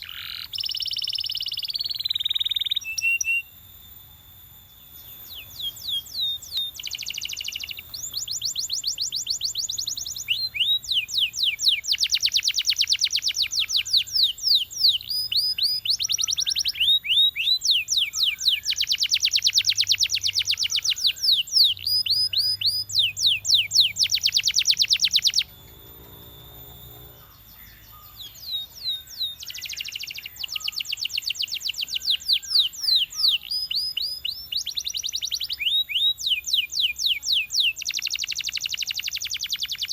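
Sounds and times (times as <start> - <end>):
canary trilling: 5.3 - 39.9.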